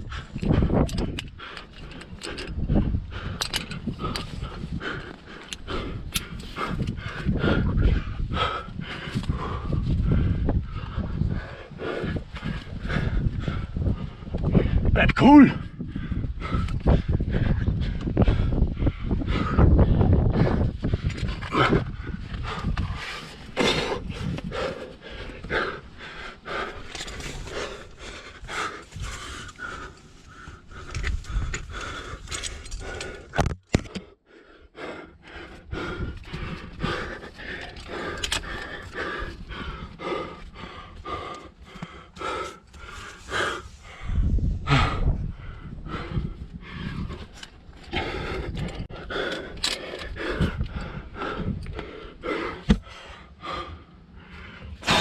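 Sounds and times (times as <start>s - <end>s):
person panting: 0.0s - 55.0s.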